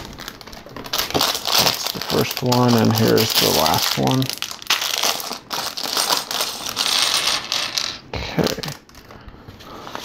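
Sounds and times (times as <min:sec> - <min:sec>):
plastic pieces clattering: 0:00.0 - 0:09.1.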